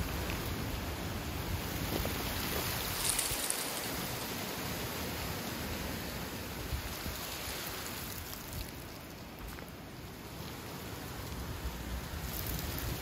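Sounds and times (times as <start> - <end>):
dry leaves rustling on gravel: 0.0 - 5.9, 6.7 - 13.0
wind gusting through trees: 0.0 - 13.0.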